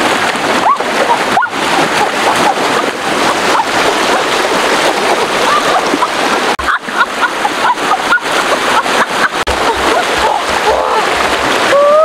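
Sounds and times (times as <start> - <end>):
person wading through water: 0.0 - 12.0
stream rushing over rocks: 0.0 - 12.0.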